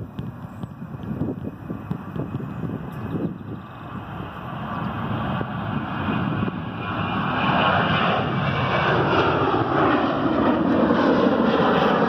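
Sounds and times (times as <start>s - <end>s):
jet engines roaring at takeoff: 0.0s - 12.0s.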